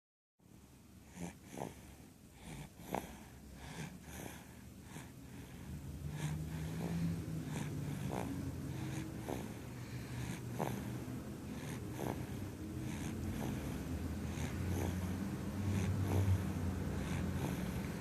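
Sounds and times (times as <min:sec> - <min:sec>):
snoring breaths: 0:01.0 - 0:18.0.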